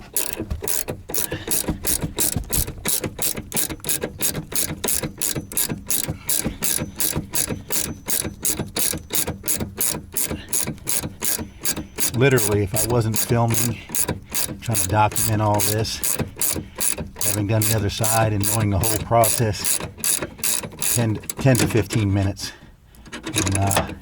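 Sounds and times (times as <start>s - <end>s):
ratcheting wrench clicking: 0.0s - 22.1s, 22.9s - 24.0s.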